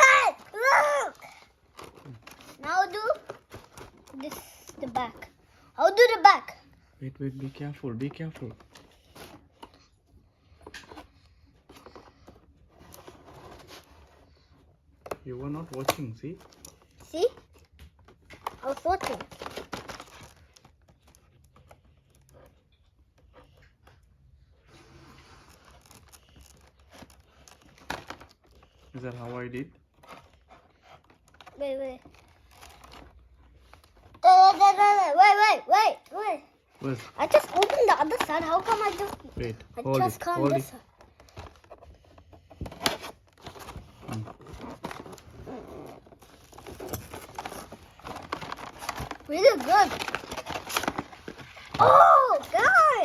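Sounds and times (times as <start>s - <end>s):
toy packaging clicks and rustling: 0.0s - 6.8s, 7.4s - 24.2s, 24.8s - 53.0s.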